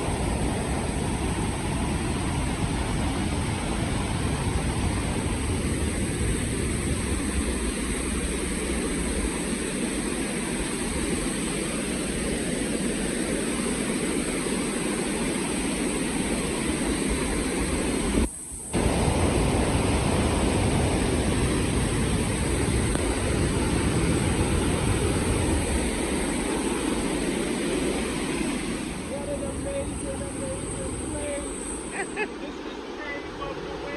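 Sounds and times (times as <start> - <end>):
roar of waterfall: 0.0 - 33.9.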